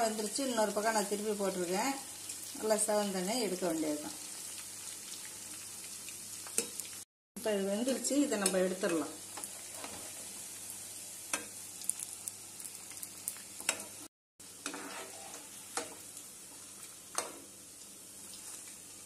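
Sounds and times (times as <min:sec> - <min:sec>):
food frying in hot oil: 0:00.0 - 0:19.0.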